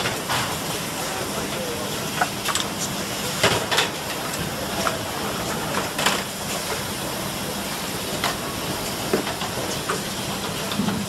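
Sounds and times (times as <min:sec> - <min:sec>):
machine hiss and hum: 0:00.0 - 0:11.0.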